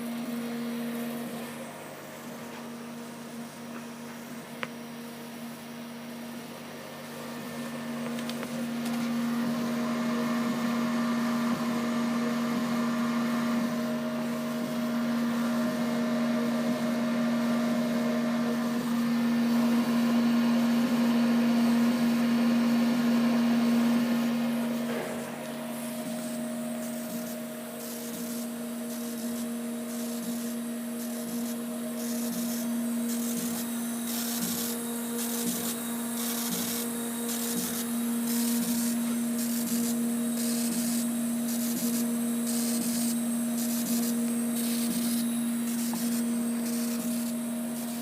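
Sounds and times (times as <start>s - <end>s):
laser cutter motor hum: 0.0s - 48.0s.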